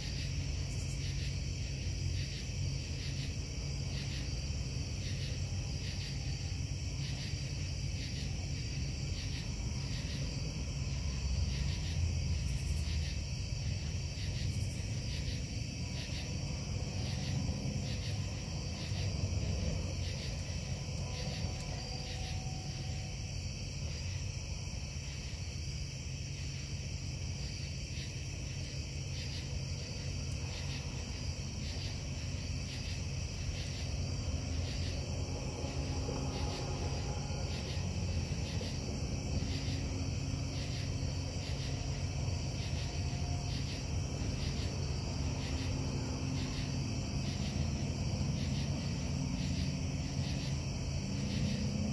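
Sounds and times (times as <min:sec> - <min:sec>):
insects chirping: 0:00.0 - 0:51.9.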